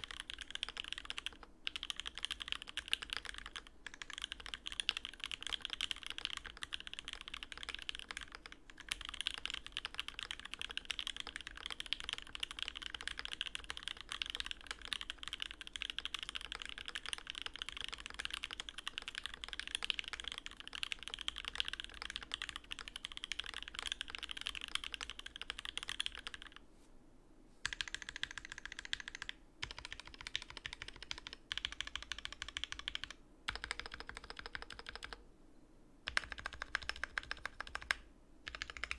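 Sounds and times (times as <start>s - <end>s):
fast mechanical keyboard typing: 0.0s - 26.6s, 27.6s - 35.2s, 36.0s - 38.9s.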